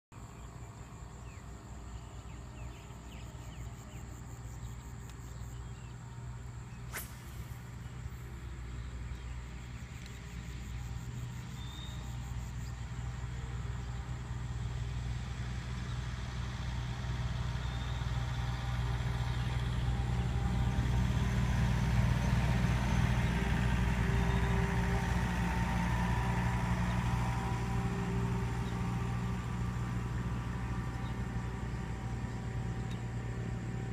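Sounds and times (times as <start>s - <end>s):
motor low hum: 0.1s - 33.9s.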